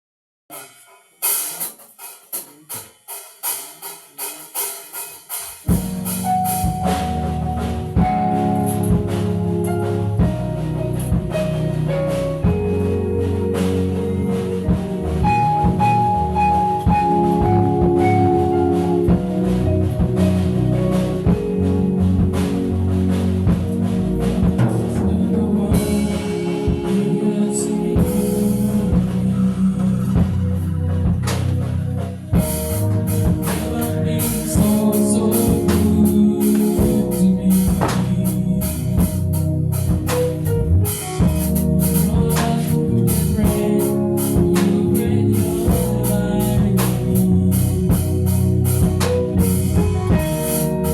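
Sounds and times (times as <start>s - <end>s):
music with drums and bass: 0.5s - 50.9s.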